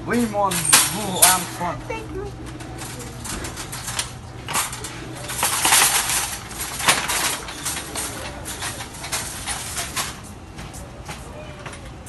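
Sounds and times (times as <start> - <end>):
wire shopping cart rattling: 0.0 - 12.0.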